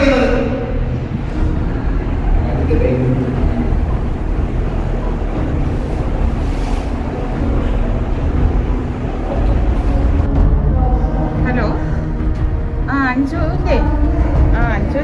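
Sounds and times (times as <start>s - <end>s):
low rumbling rush: 0.0s - 15.0s.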